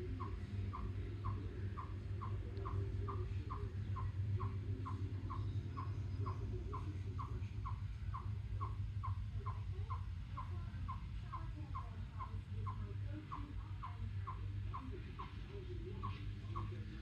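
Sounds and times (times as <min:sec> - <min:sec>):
chipmunk chirping: 0:00.0 - 0:17.0.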